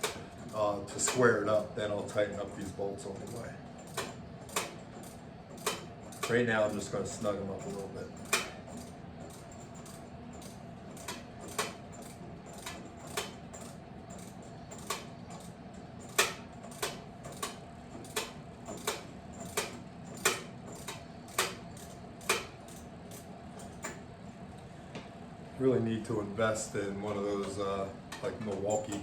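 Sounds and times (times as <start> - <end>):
ratchet clicking: 0.0 - 24.0.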